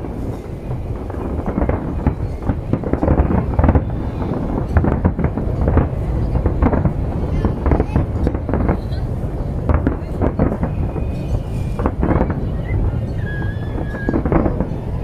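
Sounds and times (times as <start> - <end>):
fireworks popping and crackling: 0.0 - 15.0
fireworks shells bursting: 0.0 - 15.0.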